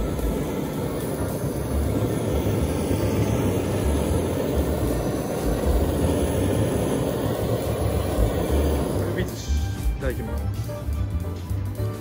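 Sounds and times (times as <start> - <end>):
grill burner roaring: 0.0 - 12.0.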